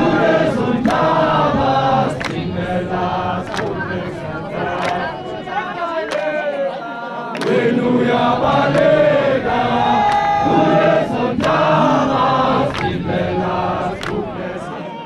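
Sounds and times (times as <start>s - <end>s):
crowd chanting in unison: 0.0s - 15.0s.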